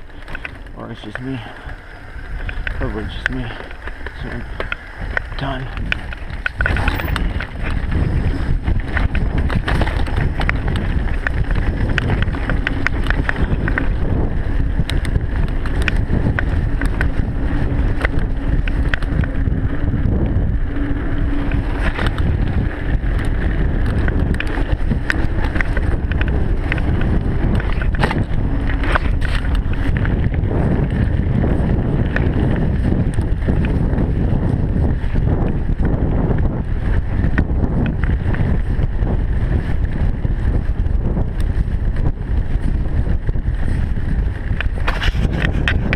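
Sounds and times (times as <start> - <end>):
bike rattles and knocks: 0.0 - 45.9
tyre rumble: 0.0 - 45.9
wind rush on microphone: 0.0 - 45.9.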